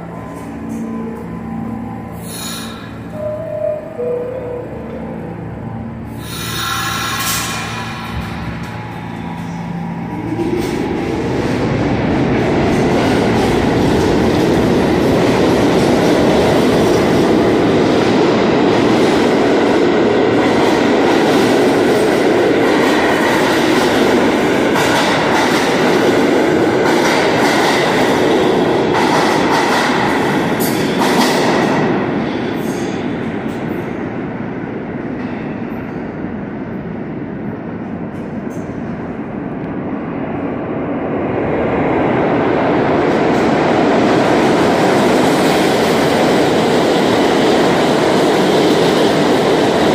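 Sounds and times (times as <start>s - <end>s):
subway train running on rails: 0.0s - 49.9s.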